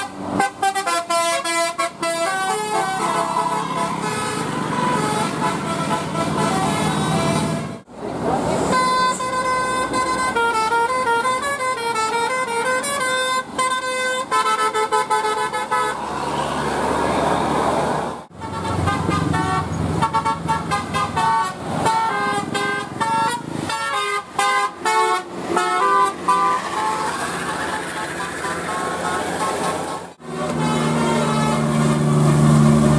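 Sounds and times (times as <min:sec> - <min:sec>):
bus multi-tone air horn melody: 0:00.0 - 0:07.9, 0:08.6 - 0:16.1, 0:18.3 - 0:32.9.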